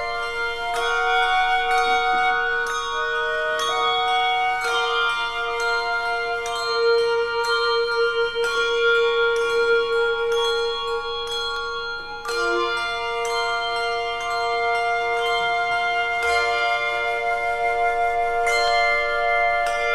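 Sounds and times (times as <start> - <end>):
handbell choir playing chords: 0.0 - 19.9.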